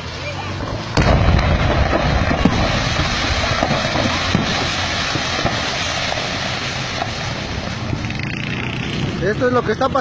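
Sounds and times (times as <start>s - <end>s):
fireworks popping and cracking: 0.0s - 10.0s
explosion rumble: 0.5s - 9.3s.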